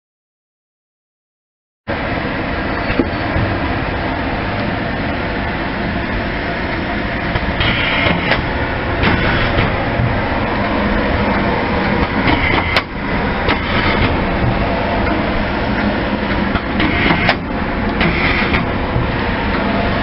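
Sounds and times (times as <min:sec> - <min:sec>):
conveyor and motor noise: 0:01.9 - 0:20.0.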